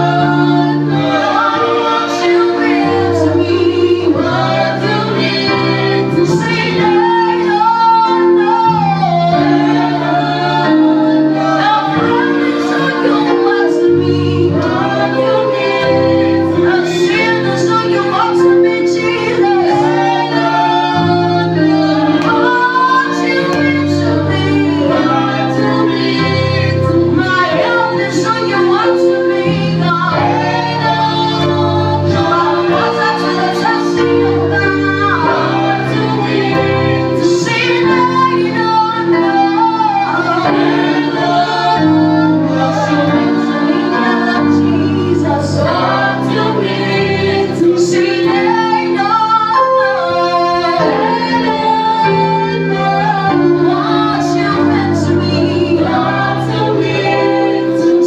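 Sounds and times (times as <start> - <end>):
backing vocals: 0.0 - 58.0
keyboard chords: 0.0 - 58.0
woman singing lead: 0.0 - 58.0.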